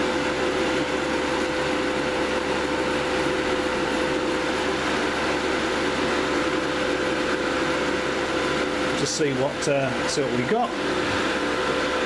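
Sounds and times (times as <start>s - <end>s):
cooling fans rushing air: 0.0s - 12.0s.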